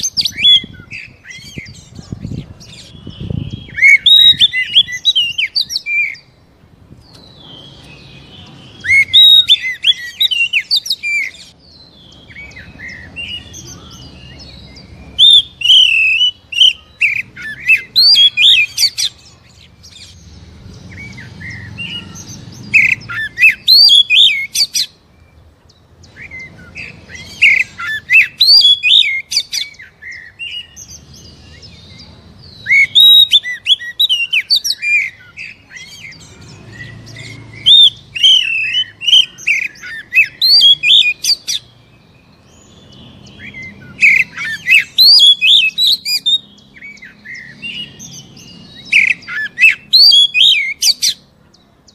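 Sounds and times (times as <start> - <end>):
magpie-robin singing harsh phrases: 0.0 - 6.4, 7.2 - 25.0, 26.0 - 51.6.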